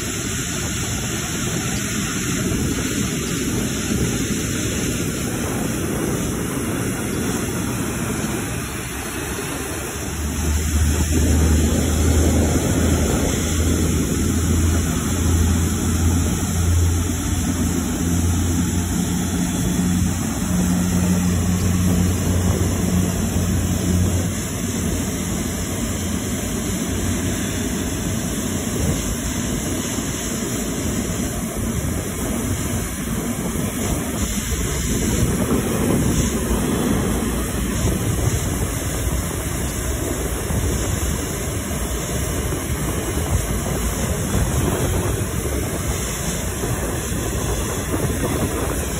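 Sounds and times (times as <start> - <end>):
jet engines rushing: 0.0 - 48.9
low steady hum: 0.0 - 48.9.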